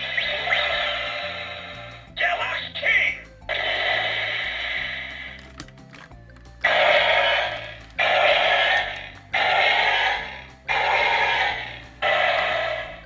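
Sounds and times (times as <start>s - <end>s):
electronic toy sound effect: 0.0s - 5.6s, 6.6s - 13.0s.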